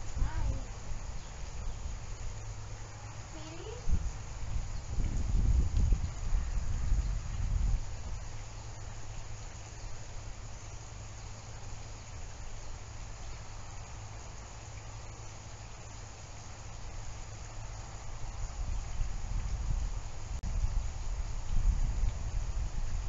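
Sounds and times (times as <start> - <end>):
outdoor hiss: 0.0 - 23.0.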